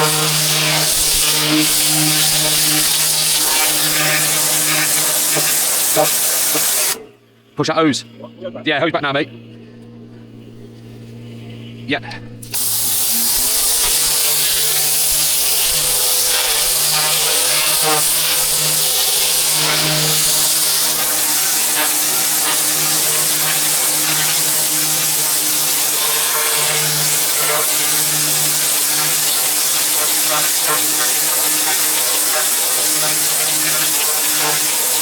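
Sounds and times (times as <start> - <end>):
pressure washer water jet hissing: 0.0 - 7.1, 12.3 - 35.0
machine hum: 0.0 - 35.0.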